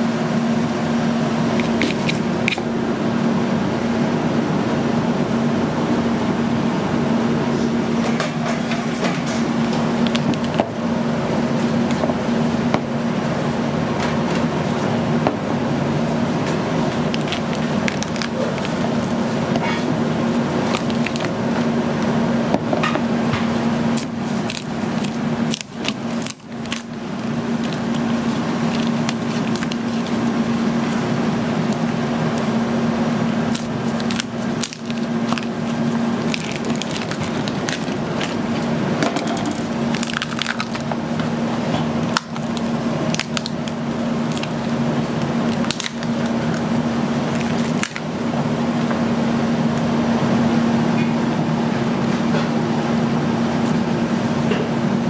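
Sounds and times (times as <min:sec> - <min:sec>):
low kitchen hum: 0:00.0 - 0:55.0.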